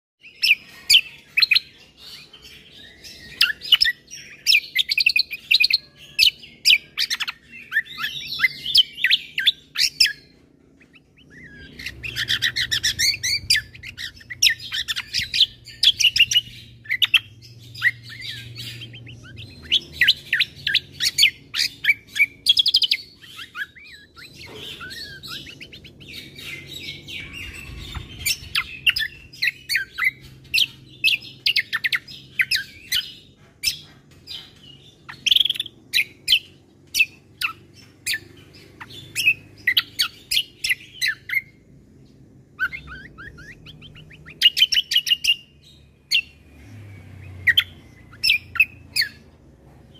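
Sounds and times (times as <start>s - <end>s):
songbird chirping and twittering: 0.2s - 49.9s.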